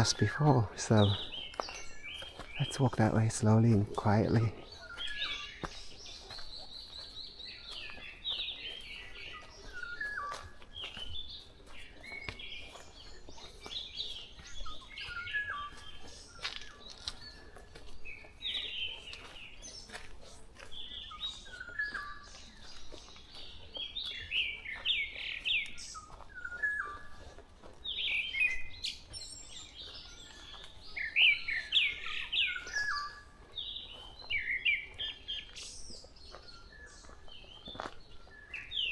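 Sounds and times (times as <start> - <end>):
birds singing and calling: 0.0 - 38.9
slow footsteps: 0.0 - 38.9.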